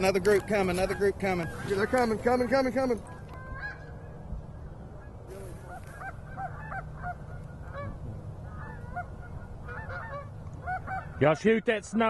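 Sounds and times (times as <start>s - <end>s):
geese honking: 0.0s - 4.2s, 4.9s - 11.6s
low background rumble: 0.0s - 11.9s.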